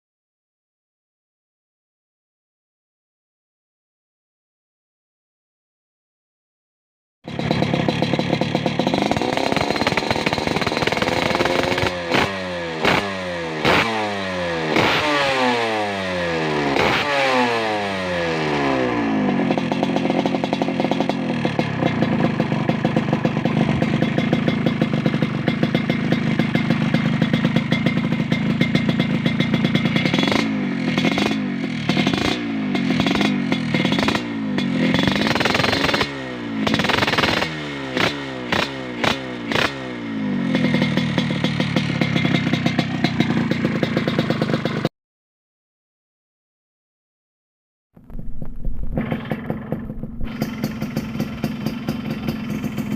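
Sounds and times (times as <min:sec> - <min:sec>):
two-stroke motorcycle engine revving: 0:07.3 - 0:44.9, 0:48.0 - 0:52.9.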